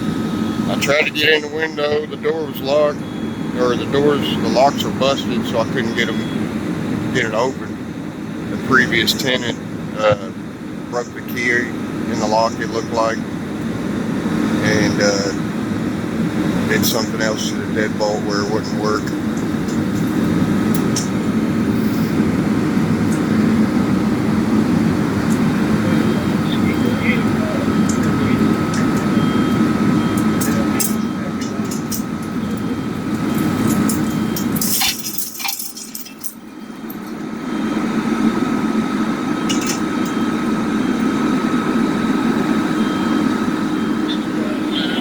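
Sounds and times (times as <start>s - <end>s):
fire engine pump rumbling: 0.0s - 45.0s
thin steady whine: 0.0s - 45.0s.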